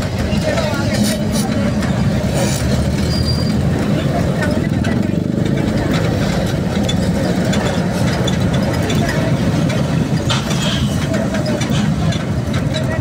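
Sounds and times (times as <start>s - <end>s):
traffic: 0.0s - 13.0s
vehicle engine running: 0.0s - 13.0s.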